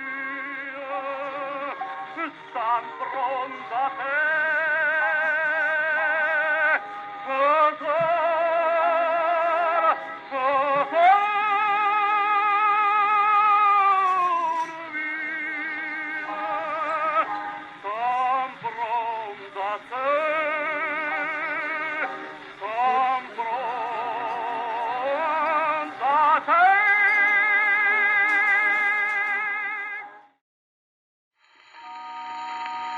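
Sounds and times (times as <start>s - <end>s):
operatic singing with vibrato: 0.0s - 30.4s.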